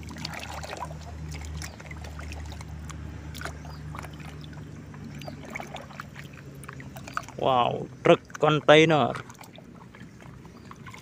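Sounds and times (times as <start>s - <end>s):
muddy water sloshing in a washbasin: 0.0s - 11.0s.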